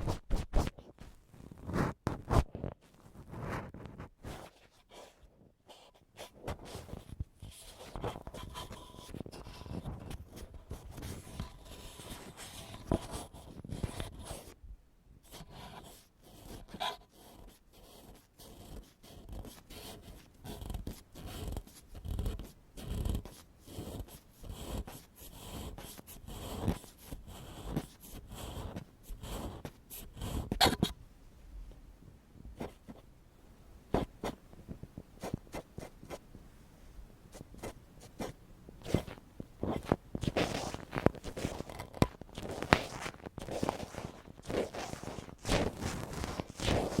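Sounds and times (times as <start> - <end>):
ear pick scratching microphone: 0.0 - 5.2, 6.2 - 14.6, 15.3 - 31.0, 37.3 - 47.0.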